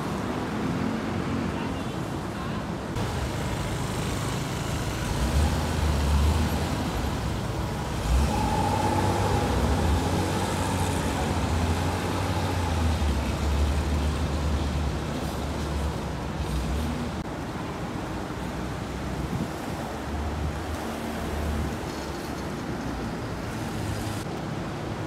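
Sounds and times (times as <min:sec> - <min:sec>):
traffic engine rumble: 0:00.0 - 0:25.0.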